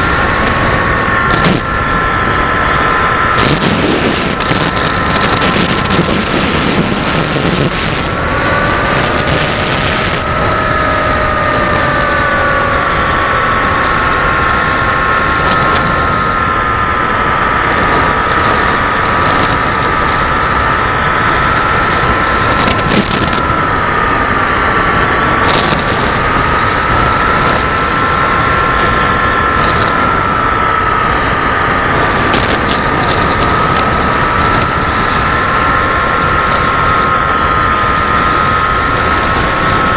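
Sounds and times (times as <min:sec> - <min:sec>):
electric motor whine: 0:00.0 - 0:39.9
wind noise: 0:00.0 - 0:39.9.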